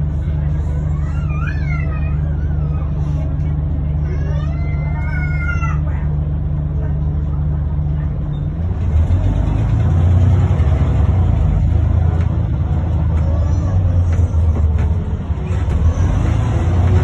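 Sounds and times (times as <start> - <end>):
bus engine humming: 0.0 - 17.0.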